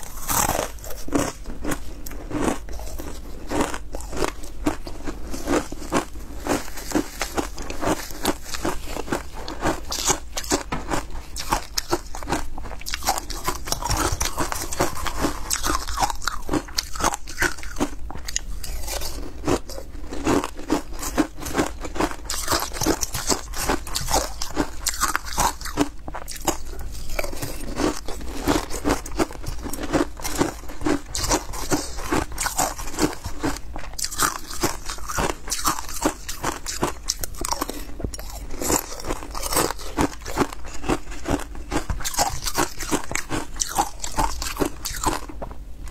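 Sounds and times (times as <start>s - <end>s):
chewing and crunching ice: 0.0s - 45.9s.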